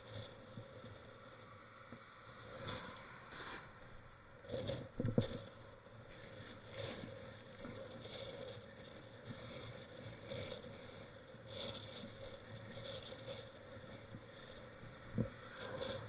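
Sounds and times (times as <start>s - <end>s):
bike tyres rolling rush: 0.0s - 16.0s.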